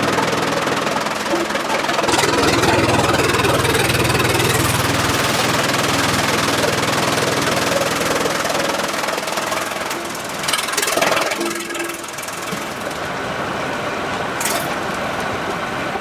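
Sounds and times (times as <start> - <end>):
sawmill machinery rattle and hum: 0.0 - 16.0.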